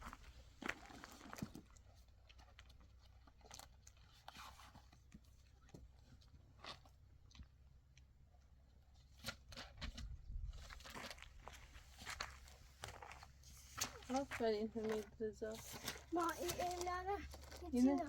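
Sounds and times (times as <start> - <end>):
faint clicks and rustles: 0.0 - 18.0.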